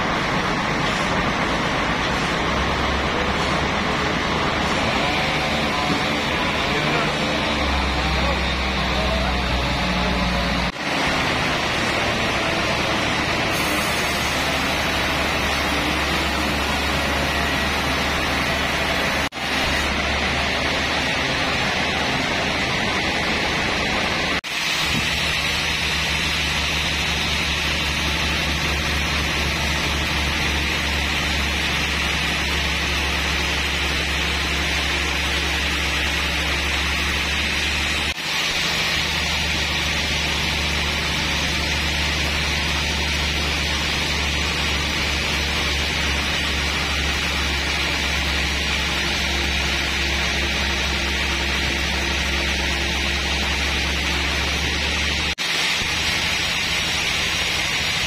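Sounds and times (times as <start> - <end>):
band saw running: 1.6 - 58.0.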